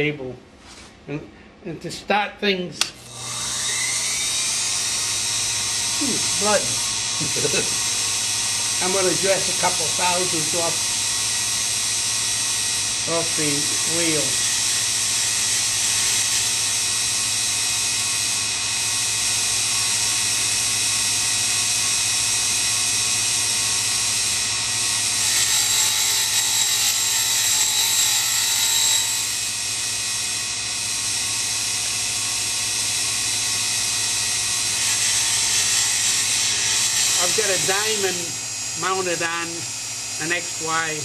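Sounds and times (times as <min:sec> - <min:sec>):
grinding wheel whine: 0:03.0 - 0:41.0.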